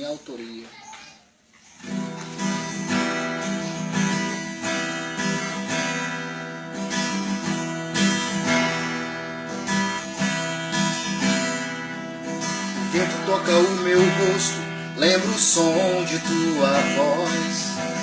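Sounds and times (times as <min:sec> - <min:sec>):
acoustic guitar strumming: 0:01.8 - 0:18.0.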